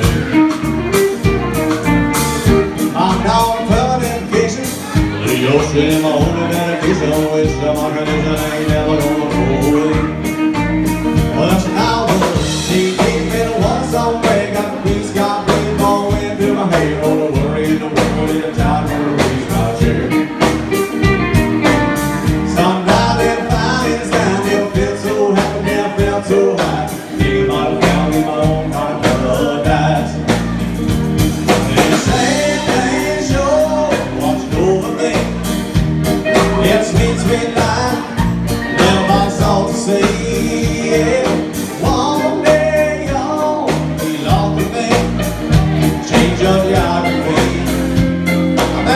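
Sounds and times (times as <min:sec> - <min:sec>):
electric guitars: 0:00.0 - 0:48.9
live rock band: 0:00.0 - 0:48.9
person singing: 0:02.2 - 0:21.0, 0:21.6 - 0:30.9, 0:31.5 - 0:48.9.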